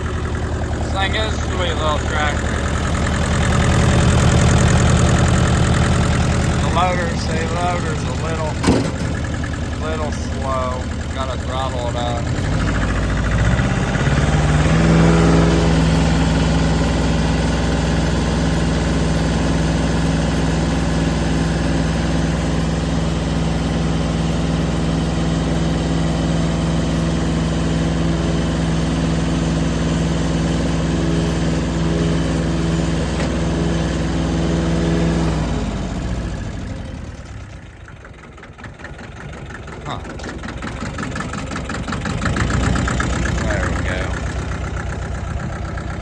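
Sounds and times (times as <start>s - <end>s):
diesel tractor engine running: 0.0s - 46.0s.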